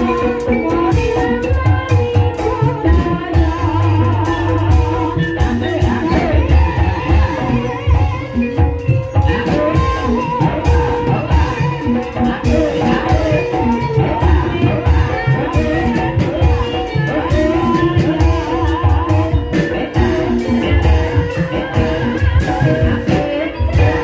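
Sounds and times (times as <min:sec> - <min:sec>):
person singing wavering: 0:00.0 - 0:24.0
ringing metallophone tones: 0:00.0 - 0:24.0
steady drumming: 0:00.0 - 0:24.0.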